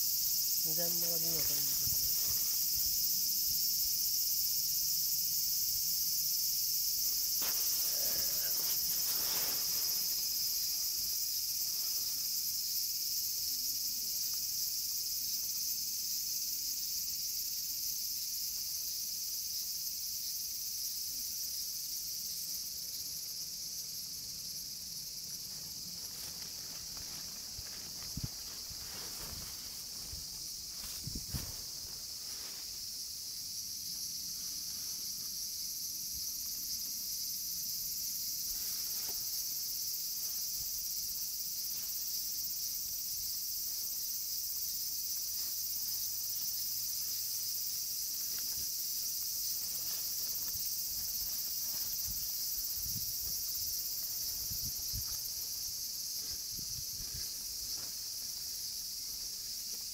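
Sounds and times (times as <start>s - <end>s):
insects shrilling: 0.0s - 19.3s, 20.3s - 59.9s.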